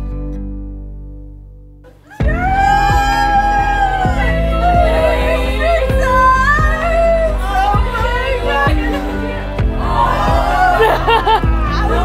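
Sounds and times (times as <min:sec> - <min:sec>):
sung melody over beat: 0:01.9 - 0:12.0.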